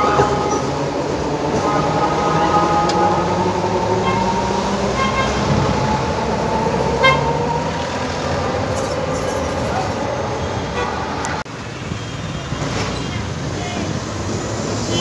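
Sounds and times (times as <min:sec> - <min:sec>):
busy street traffic: 0:00.0 - 0:15.0.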